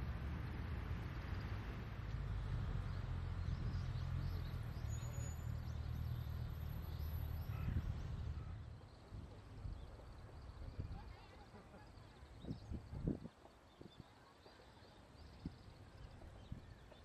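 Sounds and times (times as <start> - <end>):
small birds chirping: 2.8 - 17.0.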